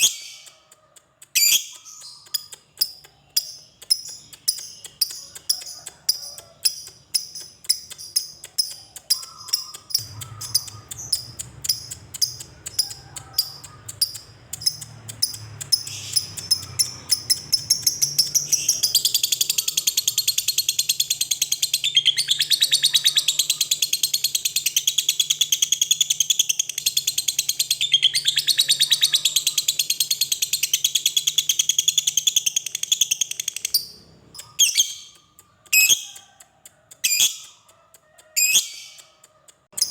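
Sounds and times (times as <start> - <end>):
lovebird chirping and trilling: 0.0 - 0.7, 1.3 - 36.4, 37.0 - 37.7, 38.4 - 39.9.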